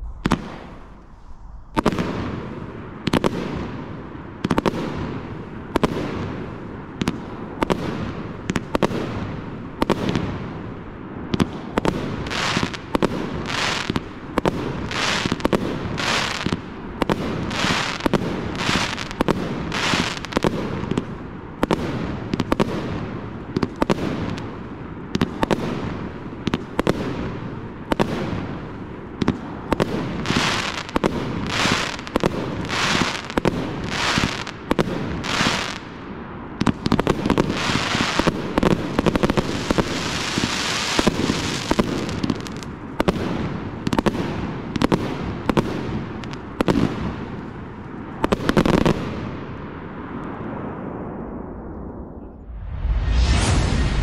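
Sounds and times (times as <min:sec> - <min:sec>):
firework bangs: 0:00.0 - 0:49.5.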